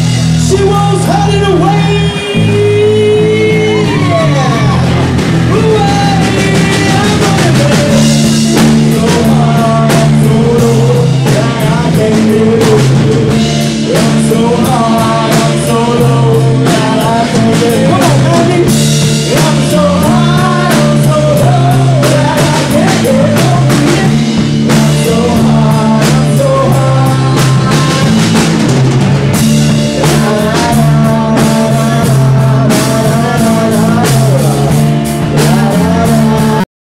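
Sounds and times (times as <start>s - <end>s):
electric guitar: 0.0s - 36.6s
bass line: 0.0s - 36.7s
drum kit: 0.0s - 36.7s
person singing: 0.0s - 36.7s.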